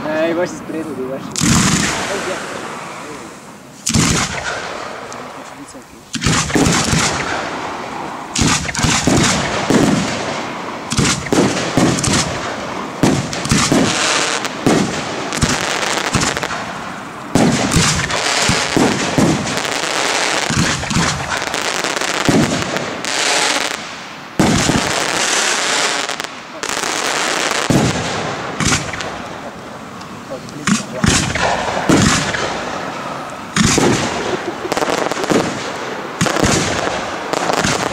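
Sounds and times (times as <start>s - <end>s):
fireworks hissing and crackling: 0.0s - 37.9s
firework shells bursting: 3.8s - 5.4s, 6.1s - 29.5s, 30.6s - 37.9s.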